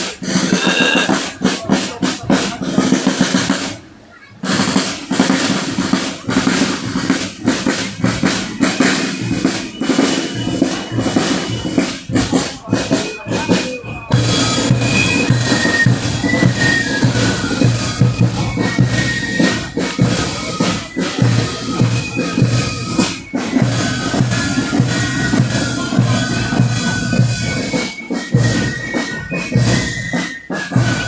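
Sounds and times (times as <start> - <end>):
marching band drums: 0.0 - 31.0
wind instruments melody: 0.2 - 3.6, 4.5 - 31.0.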